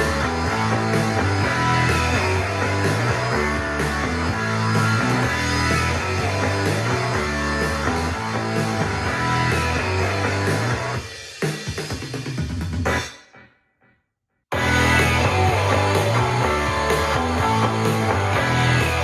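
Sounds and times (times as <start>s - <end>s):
electric guitar: 0.0s - 11.0s, 14.5s - 19.0s
steady bass line: 0.0s - 11.0s, 14.6s - 19.0s
rock music: 0.0s - 13.4s, 14.5s - 19.0s.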